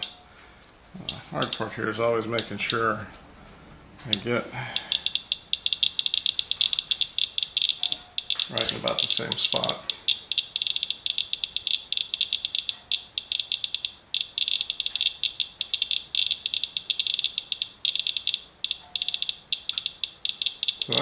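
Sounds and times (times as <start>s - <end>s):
geiger counter clicking: 0.0s - 0.2s, 1.0s - 2.8s, 4.0s - 21.0s.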